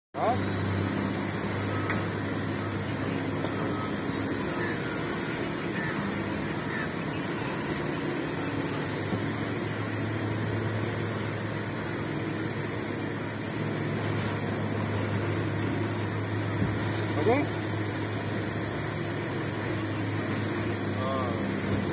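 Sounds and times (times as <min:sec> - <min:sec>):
heavy machine engine running: 0:00.2 - 0:21.9.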